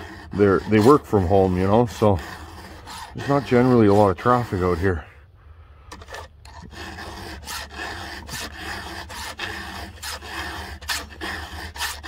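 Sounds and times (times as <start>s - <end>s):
file rasping on chainsaw chain: 0.0s - 5.1s, 5.9s - 12.0s.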